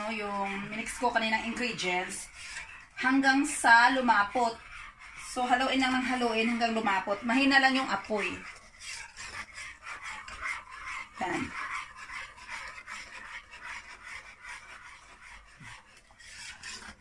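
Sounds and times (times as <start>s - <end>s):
wire whisk scraping a pot: 0.0s - 17.0s.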